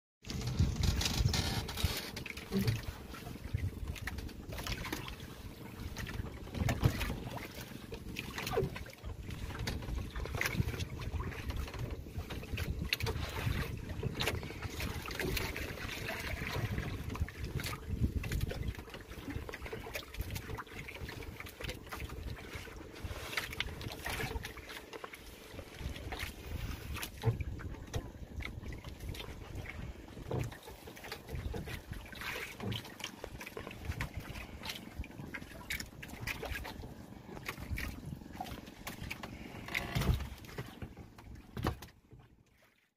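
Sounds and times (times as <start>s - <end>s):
water sloshing against boat: 0.2s - 42.9s.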